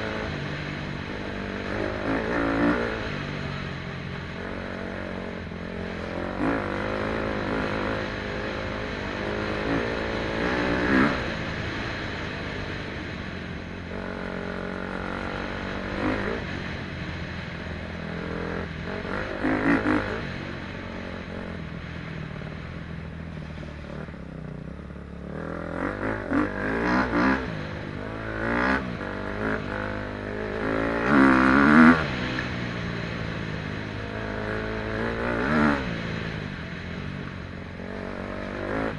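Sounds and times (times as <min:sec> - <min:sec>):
motocross bike engine revving: 0:00.0 - 0:22.6, 0:25.1 - 0:38.9.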